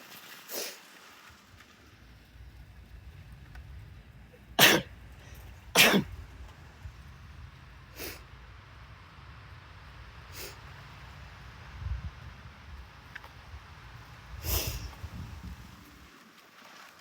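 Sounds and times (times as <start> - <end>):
wind rumbling on microphone: 1.4 - 16.2.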